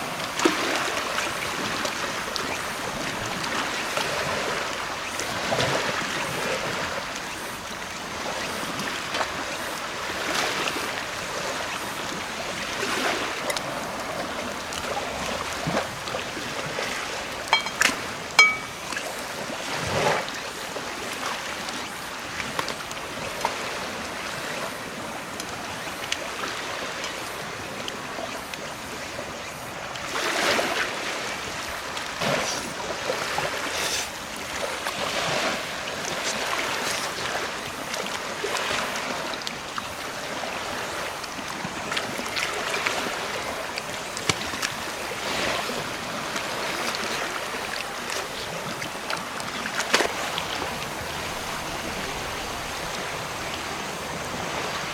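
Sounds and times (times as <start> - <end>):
sea waves washing ashore: 0.0 - 54.9.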